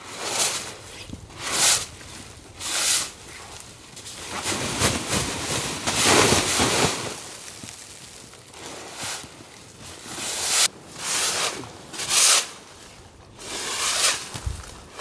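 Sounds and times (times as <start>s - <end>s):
snow swishing off tarp: 0.0s - 15.0s
tarp fabric rustling: 0.0s - 15.0s.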